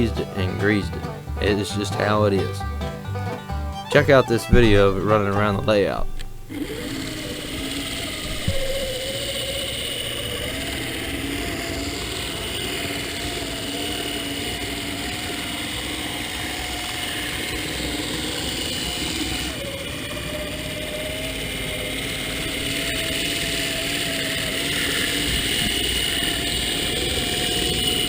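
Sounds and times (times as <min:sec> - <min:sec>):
model locomotive whining whir: 0:00.0 - 0:28.0.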